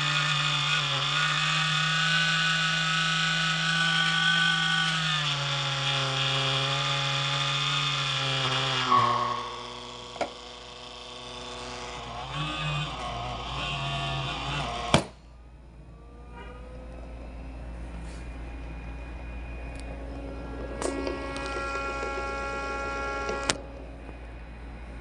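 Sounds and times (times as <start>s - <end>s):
cooler fans buzzing: 0.0s - 25.0s.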